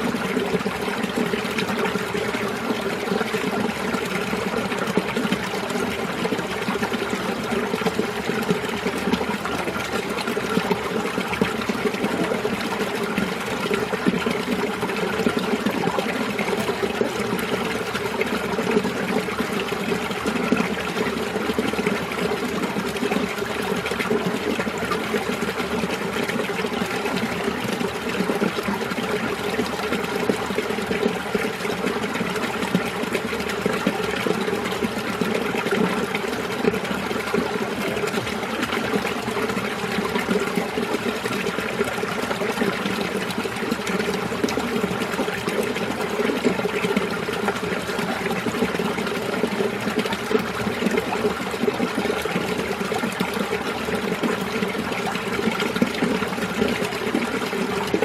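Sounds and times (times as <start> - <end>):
stream water splashing over rocks: 0.0 - 58.0.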